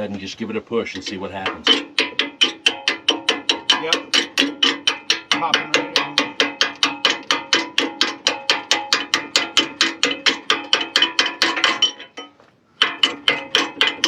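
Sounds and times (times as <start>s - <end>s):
hammer striking metal pin: 1.4s - 14.0s.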